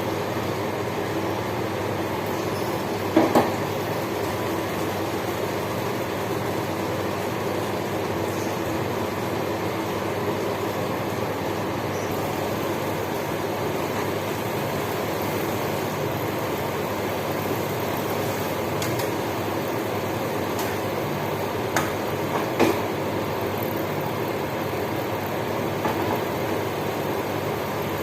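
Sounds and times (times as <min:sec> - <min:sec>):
food cooking on stove: 0:00.0 - 0:28.0.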